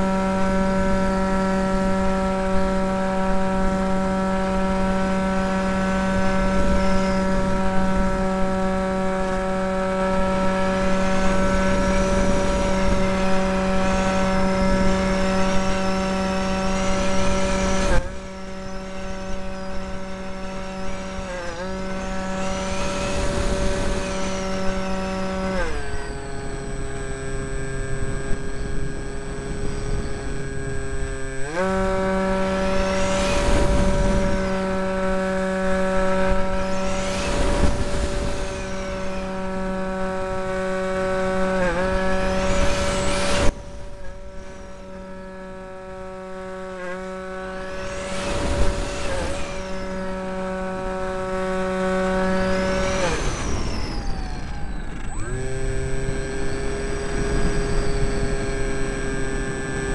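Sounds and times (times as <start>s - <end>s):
electric motor and propeller whine: 0.0s - 59.9s.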